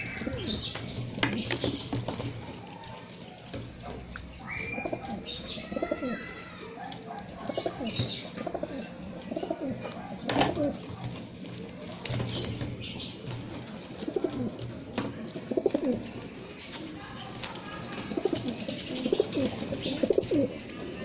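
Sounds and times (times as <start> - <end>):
pigeons cooing: 0.0 - 16.8, 17.5 - 21.0.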